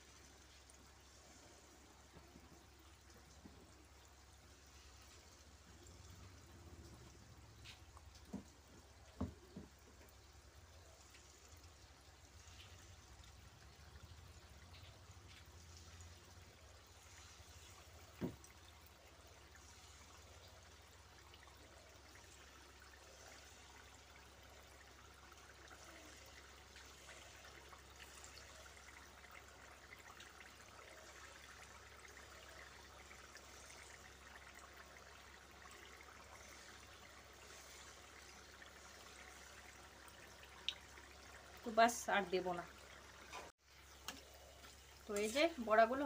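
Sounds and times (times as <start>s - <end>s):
oil sizzling and crackling: 0.0s - 46.0s.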